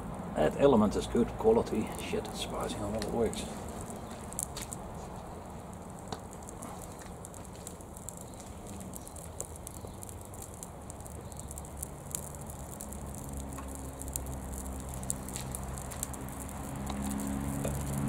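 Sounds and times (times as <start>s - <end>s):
flames crackling and popping: 0.0s - 18.0s
low electrical hum: 0.0s - 18.0s.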